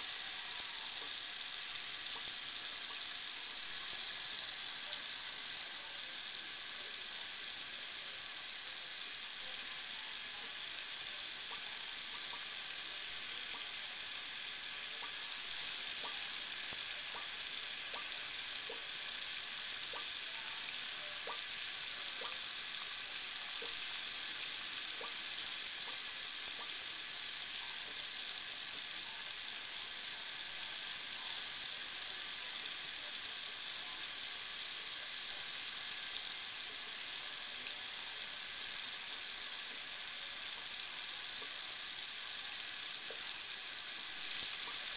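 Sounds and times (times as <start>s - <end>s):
faucet running into sink: 0.0s - 44.9s.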